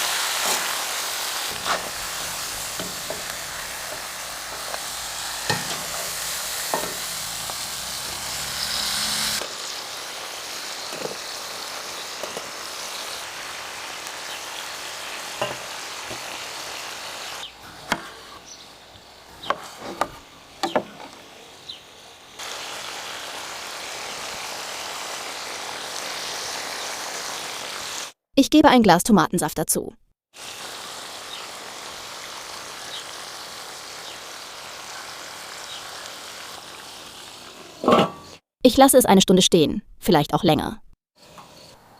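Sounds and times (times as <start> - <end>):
food sizzling in a cauldron: 0.0 - 28.2, 30.3 - 38.5, 41.1 - 41.9.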